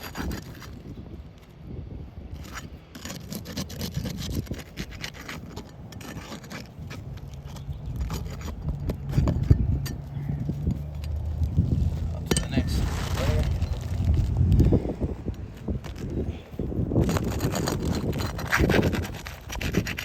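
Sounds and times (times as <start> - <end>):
shingles scraping and rubbing: 0.0 - 1.0, 2.3 - 20.0.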